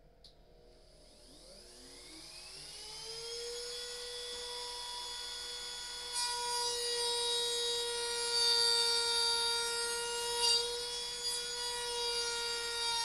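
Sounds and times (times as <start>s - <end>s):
router whining cutting wood: 0.9s - 13.0s.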